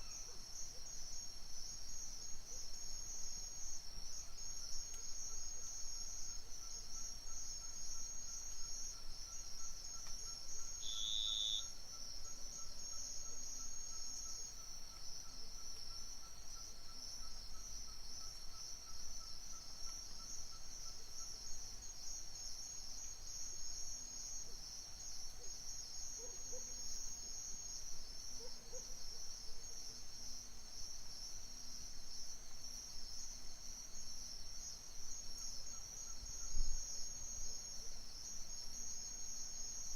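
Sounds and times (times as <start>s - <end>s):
crickets chirping: 0.0s - 39.9s
single cricket chirp: 0.0s - 39.9s.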